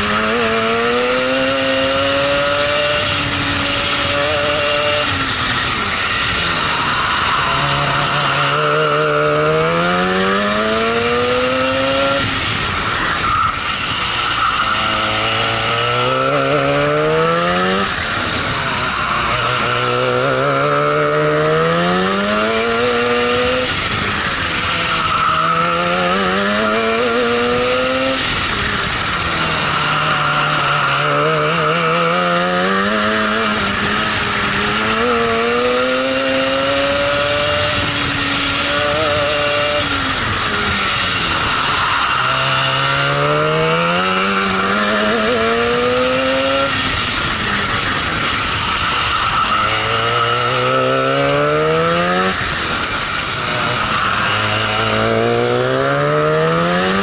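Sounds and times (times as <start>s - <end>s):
two-stroke kart engine revving: 0.0s - 57.0s.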